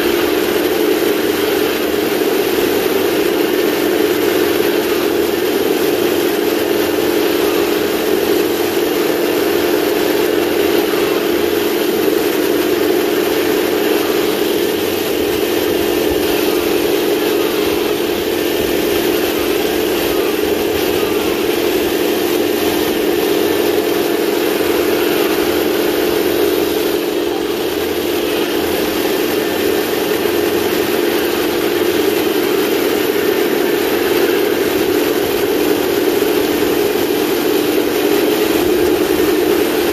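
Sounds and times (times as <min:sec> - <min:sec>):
simulated tank engine from speaker: 0:00.0 - 0:39.9.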